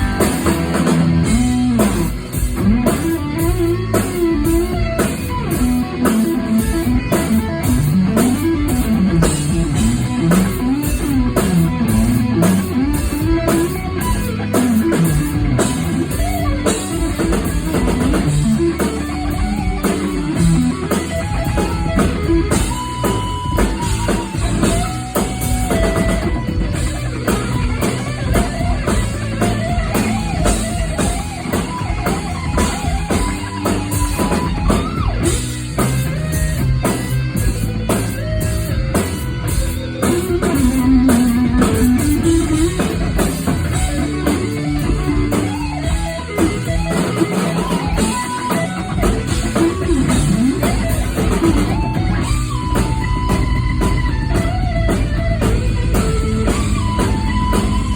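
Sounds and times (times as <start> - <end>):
drum kit: 0.0 - 57.9
loud electric guitar: 0.0 - 57.9.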